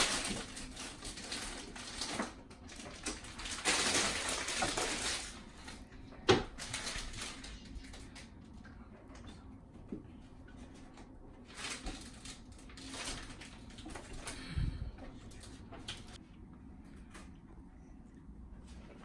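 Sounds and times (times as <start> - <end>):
plastic toy rustling in hands: 0.0 - 9.4, 10.4 - 16.2.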